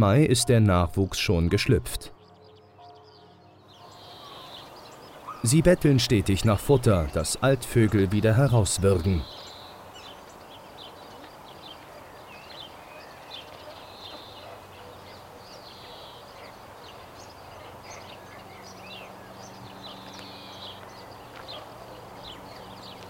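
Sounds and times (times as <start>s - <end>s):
birds chirping and whistling: 0.0s - 23.0s.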